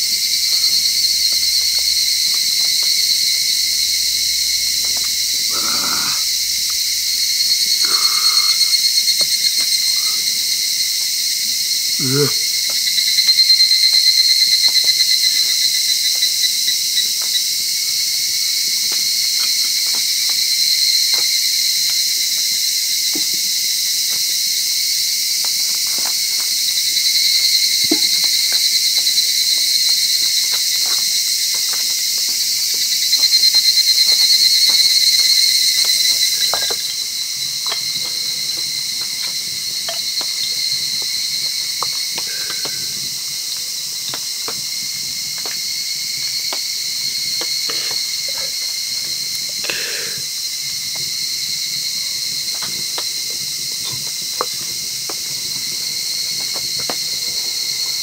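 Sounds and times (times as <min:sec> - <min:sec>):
insects shrilling: 0:00.0 - 0:58.0.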